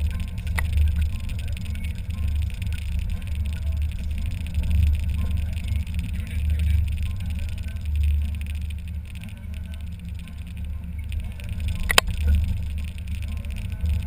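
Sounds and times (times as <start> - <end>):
car engine: 0.0 - 14.0
road noise: 0.0 - 14.0
wind rumble on microphone: 0.0 - 14.0.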